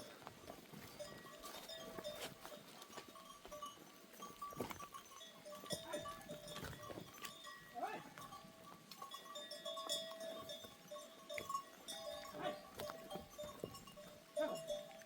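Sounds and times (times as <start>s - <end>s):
animal bells clinking: 0.0s - 15.0s.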